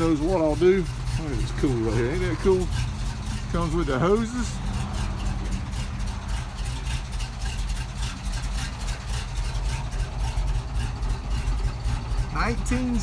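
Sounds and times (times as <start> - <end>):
fire truck engine idling: 0.0 - 13.0.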